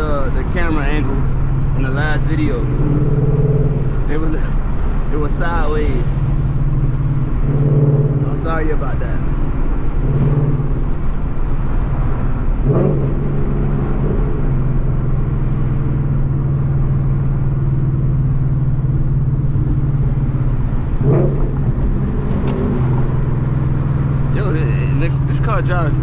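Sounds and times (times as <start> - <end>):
car engine droning inside cabin: 0.0 - 26.0.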